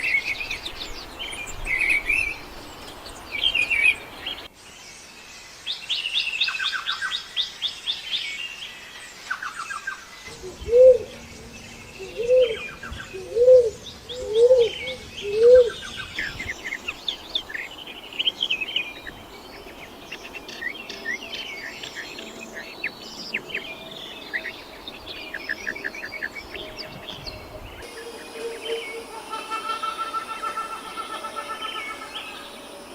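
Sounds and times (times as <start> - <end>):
bird low rising and falling calls: 0.0 - 4.5, 10.3 - 32.9
birds chirping and trilling: 0.0 - 32.9.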